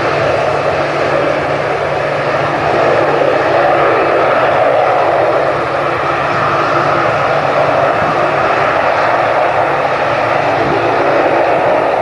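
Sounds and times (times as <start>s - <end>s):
aircraft engines running: 0.0s - 12.0s.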